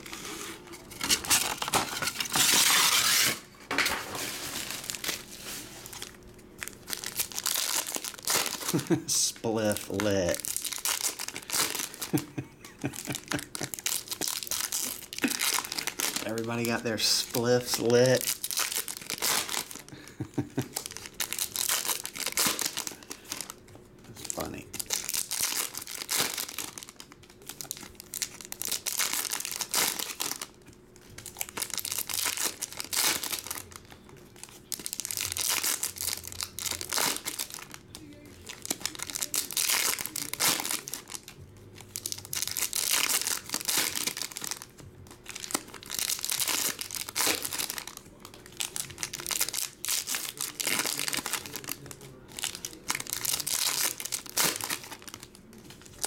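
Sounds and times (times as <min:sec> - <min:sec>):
foil wrappers tearing and crinkling: 0:00.0 - 0:56.0.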